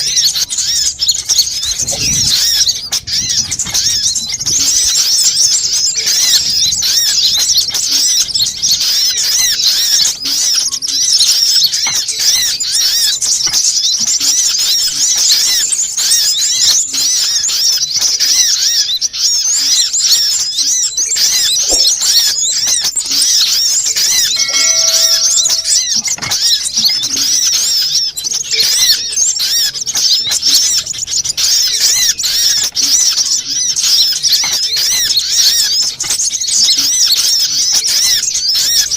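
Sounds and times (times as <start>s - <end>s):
sunbirds twittering and chirping: 0.0s - 38.9s.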